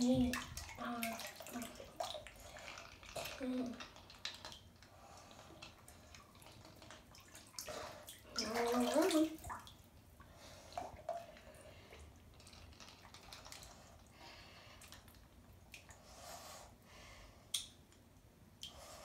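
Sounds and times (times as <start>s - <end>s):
bathwater dripping and moving: 0.0s - 19.0s.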